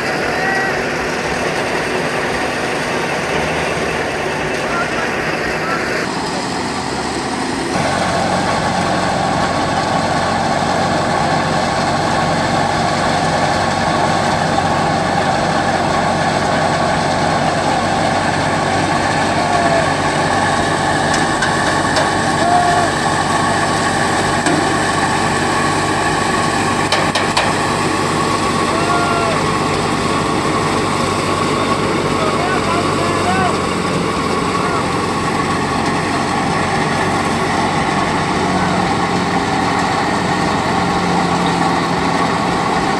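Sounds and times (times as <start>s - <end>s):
threshing machine running: 0.0s - 42.9s.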